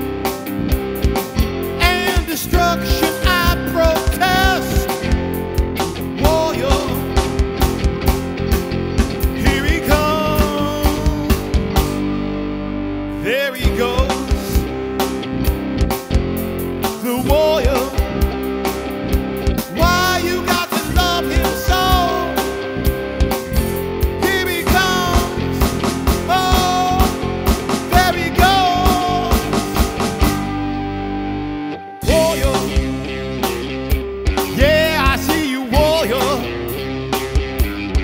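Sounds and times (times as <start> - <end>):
rock music with guitar and drums: 0.0 - 38.0.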